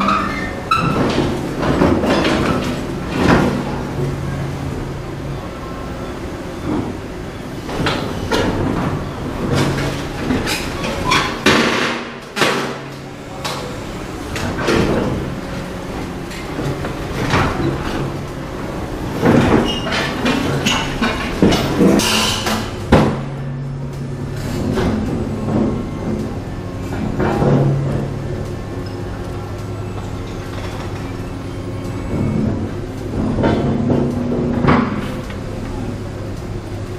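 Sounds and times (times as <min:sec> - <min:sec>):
excavator engine humming: 0:00.0 - 0:36.9.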